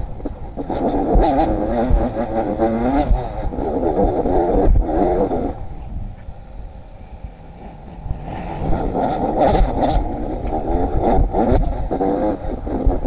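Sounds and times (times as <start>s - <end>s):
wind on microphone: 0.0s - 13.0s
dirt bike engine revving: 0.6s - 5.6s, 6.7s - 13.0s.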